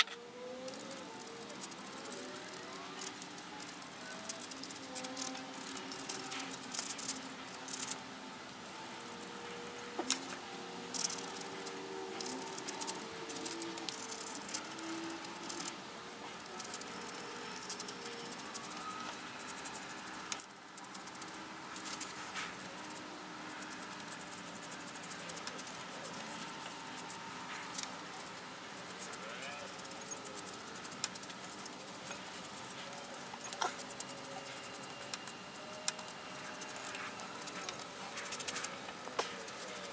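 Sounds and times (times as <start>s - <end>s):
small clicks and rattles: 0.0s - 8.2s, 8.9s - 39.9s
low steady hum: 0.0s - 39.9s.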